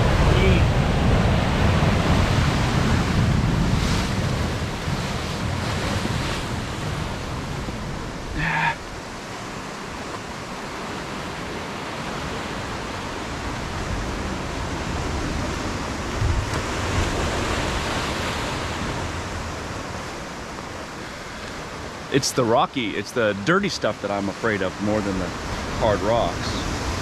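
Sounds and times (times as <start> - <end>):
ocean surf on rocky shore: 0.0 - 27.0.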